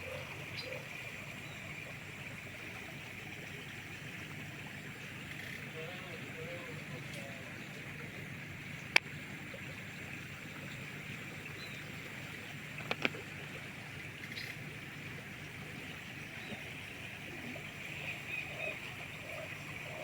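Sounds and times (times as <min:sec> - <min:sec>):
watery hiss of river: 0:00.0 - 0:20.0.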